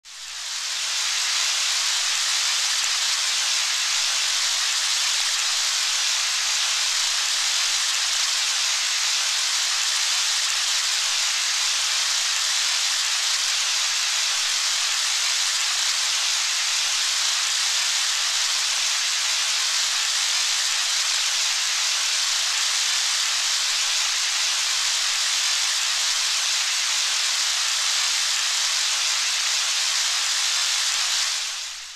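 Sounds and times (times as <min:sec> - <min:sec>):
rain falling steadily: 0:00.1 - 0:31.9.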